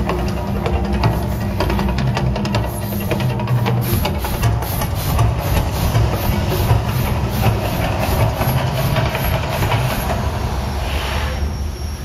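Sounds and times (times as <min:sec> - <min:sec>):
deep rumble: 0:00.0 - 0:12.0
gas fire jets hissing: 0:01.0 - 0:12.0.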